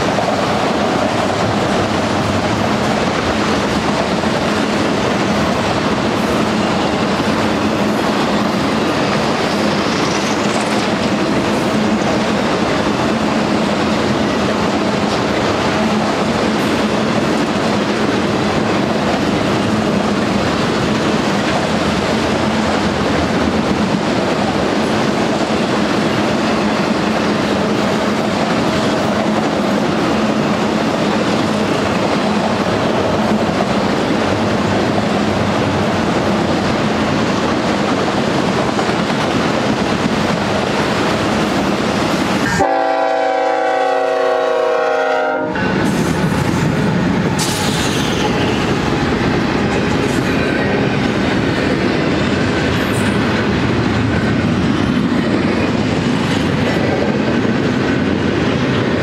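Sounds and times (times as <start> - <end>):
freight train wheels rolling on rails: 0.0 - 59.0.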